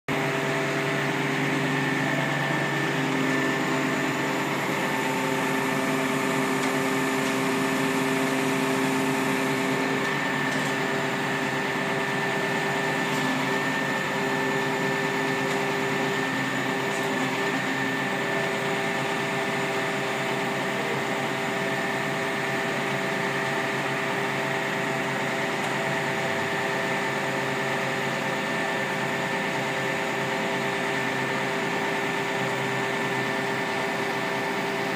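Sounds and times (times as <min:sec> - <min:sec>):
truck engine and hydraulic pump hum: 0:00.1 - 0:34.9.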